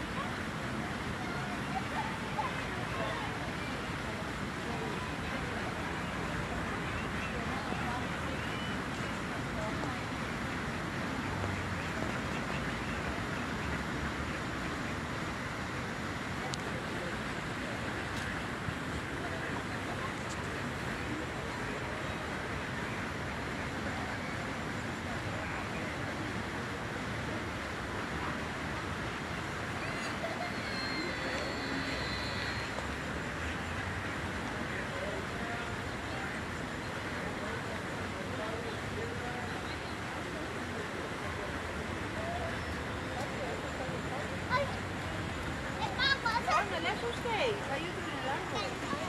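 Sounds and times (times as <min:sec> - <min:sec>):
outdoor background rush: 0:00.0 - 0:49.0.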